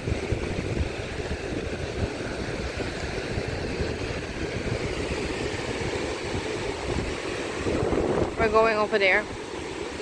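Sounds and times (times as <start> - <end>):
surf washing on shore: 0.0 - 10.0
wind buffeting microphone: 0.0 - 10.0.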